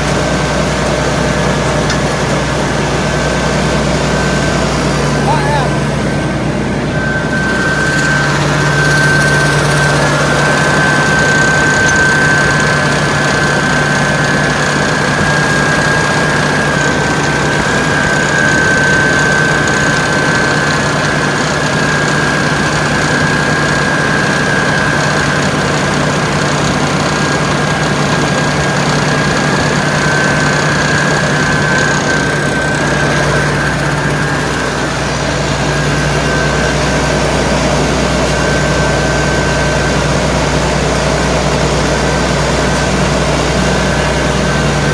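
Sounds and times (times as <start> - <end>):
engine running through exhaust: 0.0 - 44.9
high-pitched whine: 0.0 - 44.9.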